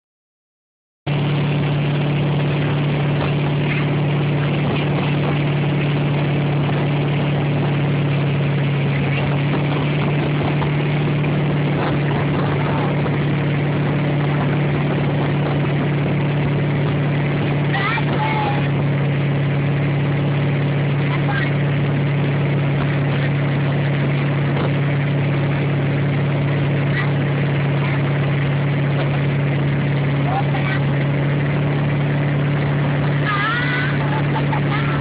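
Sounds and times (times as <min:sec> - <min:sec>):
motorboat engine running: 0:01.1 - 0:35.0.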